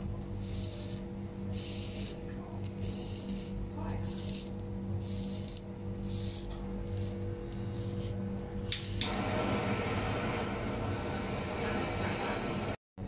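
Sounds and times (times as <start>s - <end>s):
fish searing sizzle: 0.1s - 12.6s.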